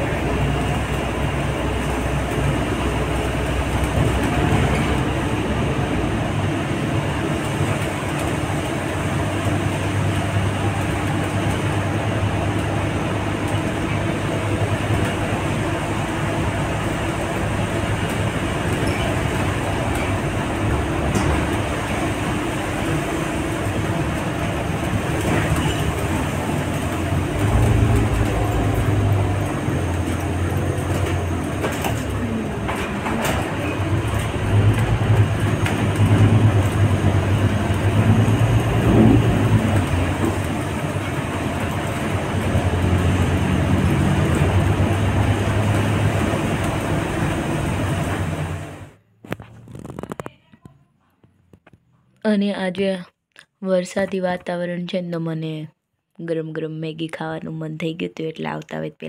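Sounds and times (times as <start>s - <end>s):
bus engine droning: 0.0s - 49.7s.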